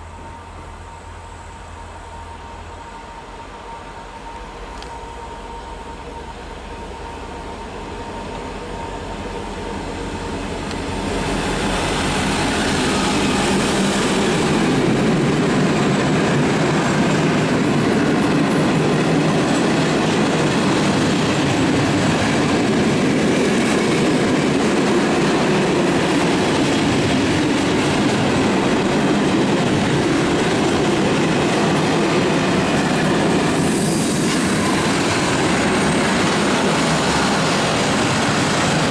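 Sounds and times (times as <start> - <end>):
diesel locomotive: 0.0 - 38.9
train wheels rolling on rail: 0.0 - 38.9.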